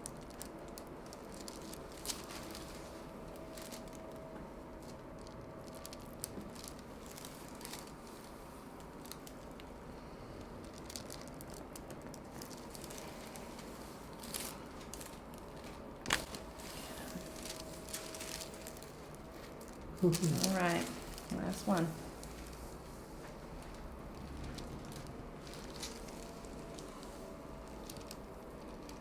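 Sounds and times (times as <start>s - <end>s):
rustling and crinkling: 0.0s - 29.0s.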